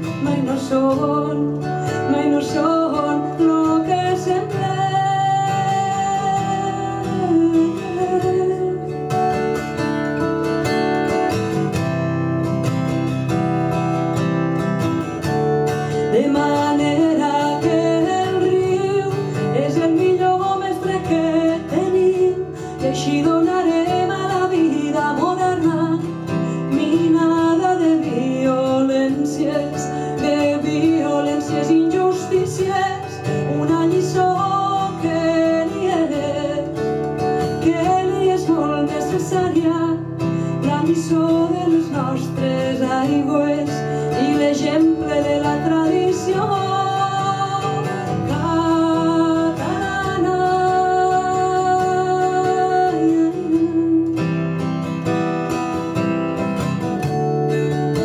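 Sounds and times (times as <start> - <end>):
woman singing: 0.0 - 12.0, 14.5 - 55.8, 56.4 - 58.0
acoustic guitar: 0.0 - 58.0.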